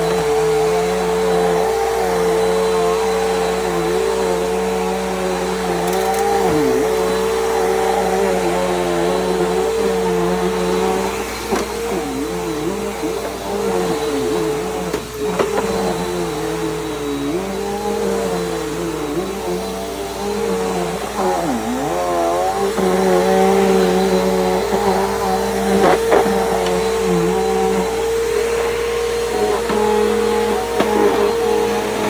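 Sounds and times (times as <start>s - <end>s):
upright vacuum running on a rug: 0.0s - 32.0s.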